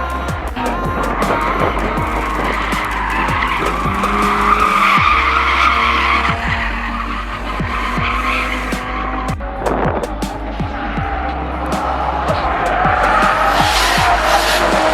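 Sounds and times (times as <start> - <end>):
car engine running: 0.0 - 14.9
music with kick-drum beat: 0.0 - 14.9
tyres squealing: 0.0 - 14.9.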